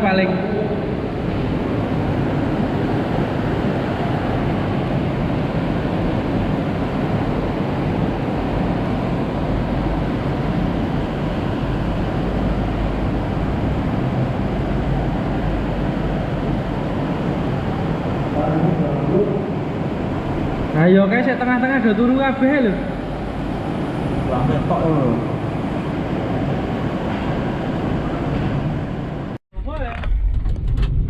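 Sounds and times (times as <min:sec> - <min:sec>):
wind rumble on microphone: 0:00.0 - 0:20.8, 0:22.8 - 0:31.0
strong storm wind blowing: 0:00.0 - 0:29.4.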